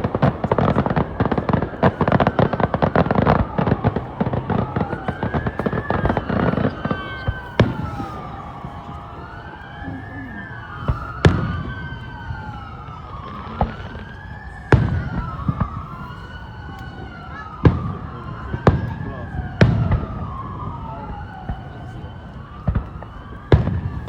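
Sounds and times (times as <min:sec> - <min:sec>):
emergency sirens wailing: 0:00.0 - 0:24.0
firework bangs: 0:00.0 - 0:24.0.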